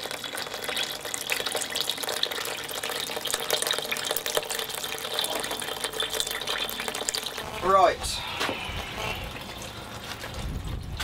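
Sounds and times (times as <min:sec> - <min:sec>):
liquid pouring into a bucket: 0:00.0 - 0:11.0.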